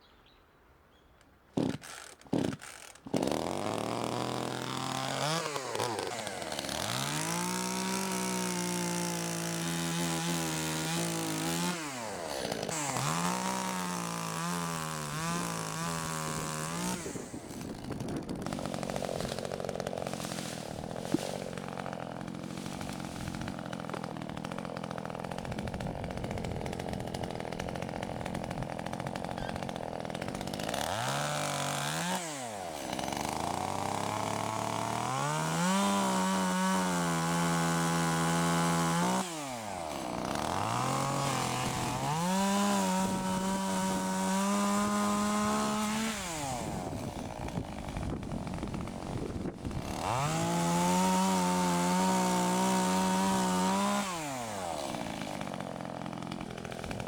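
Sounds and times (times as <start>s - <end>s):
chainsaw running and revving: 1.6s - 57.0s.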